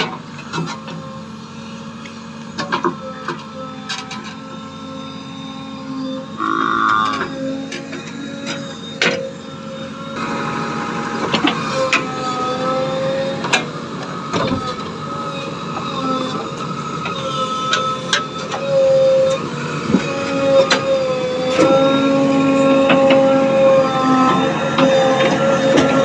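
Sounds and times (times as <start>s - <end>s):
machinery whining: 0.0s - 26.0s.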